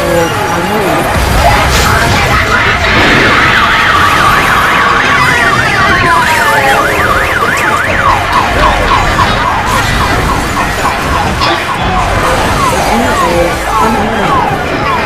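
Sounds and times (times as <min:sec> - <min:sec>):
loud noise: 0:00.0 - 0:15.0
siren yelping and warbling: 0:00.0 - 0:15.0.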